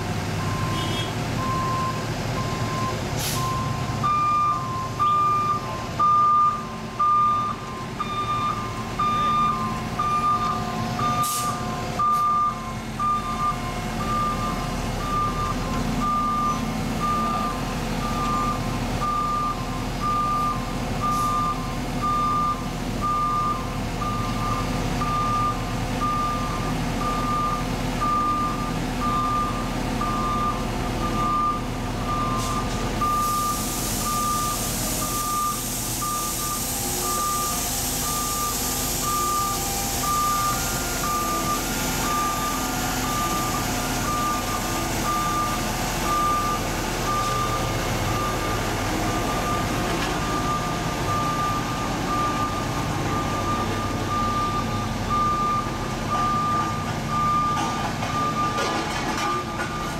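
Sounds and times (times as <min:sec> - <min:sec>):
diesel engines running: 0:00.0 - 0:59.9
truck backup alarms beeping: 0:00.1 - 0:59.9.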